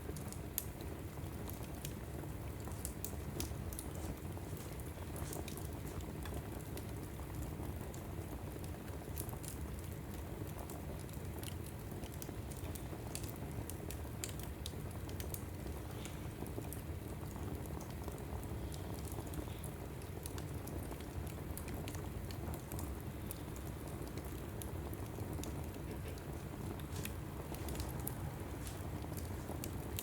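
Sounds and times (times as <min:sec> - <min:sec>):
fire crackles and pops: 0:00.0 - 0:30.0
logs burning in fireplace: 0:00.0 - 0:30.0.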